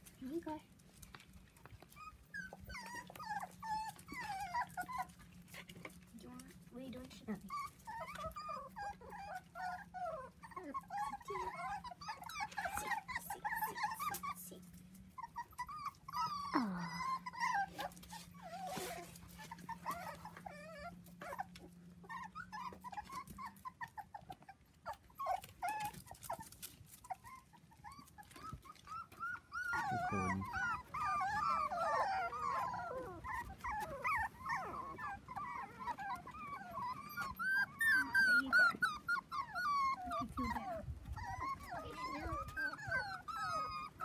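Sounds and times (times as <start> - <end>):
puppies whimpering and squeaking: 0.0 - 44.0.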